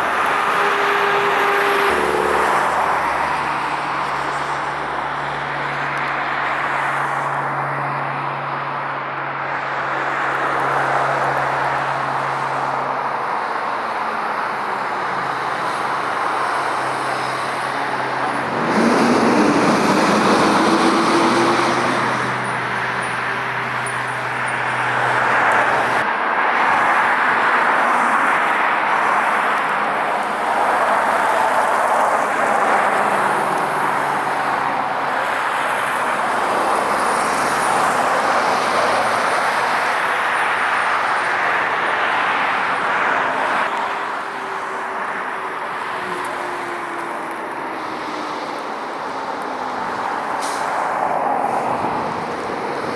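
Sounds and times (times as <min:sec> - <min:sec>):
vehicles driving past: 0:00.0 - 0:52.9.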